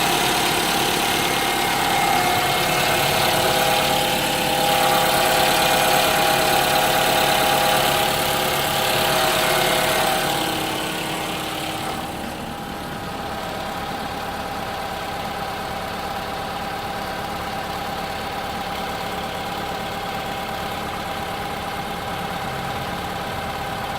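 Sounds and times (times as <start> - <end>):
car engine idling with knock: 0.0 - 23.9.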